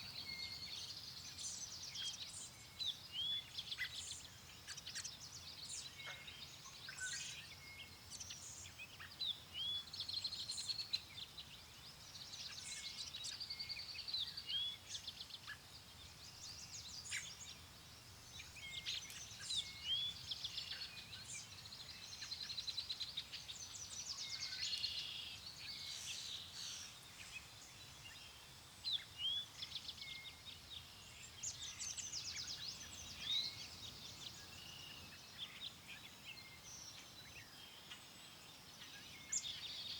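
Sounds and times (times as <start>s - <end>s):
songbirds calling: 0.0s - 39.9s.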